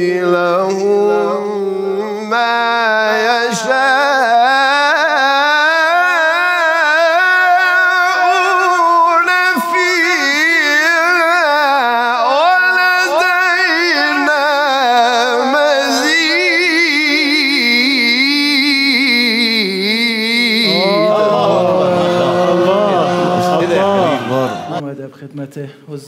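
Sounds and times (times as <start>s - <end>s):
man chanting melismatic recitation: 0.0s - 24.8s.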